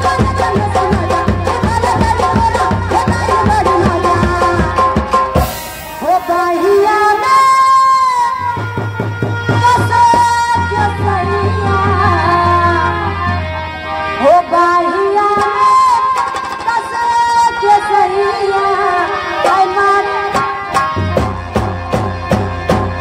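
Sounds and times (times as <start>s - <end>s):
woman singing held gliding notes: 0.0s - 5.0s, 5.9s - 13.4s, 14.0s - 20.8s
drums keeping a steady beat: 0.0s - 18.2s, 19.1s - 23.0s
stage music melody over loudspeakers: 0.0s - 23.0s.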